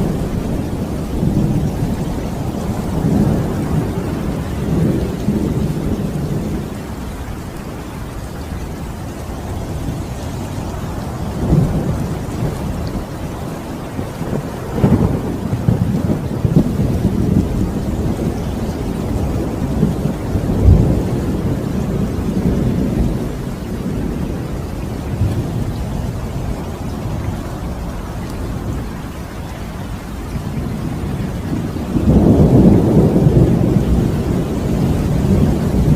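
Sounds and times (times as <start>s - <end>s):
steady rain: 0.0s - 35.9s
thunder rumbling: 0.0s - 35.9s.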